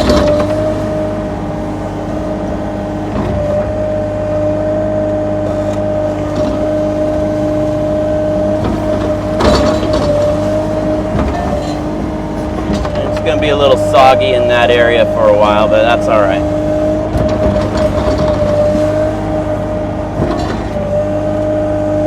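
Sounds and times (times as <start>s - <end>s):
short clunks: 0.0s - 4.0s, 5.1s - 21.5s
excavator diesel engine running: 0.0s - 22.0s
steady whine: 0.0s - 22.0s.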